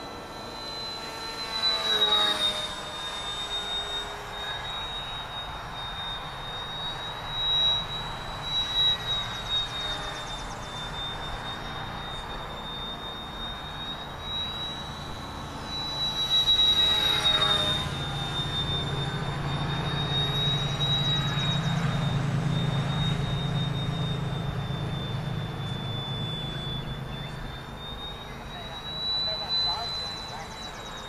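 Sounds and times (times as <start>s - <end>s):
model airplane motor whining: 0.0s - 31.0s.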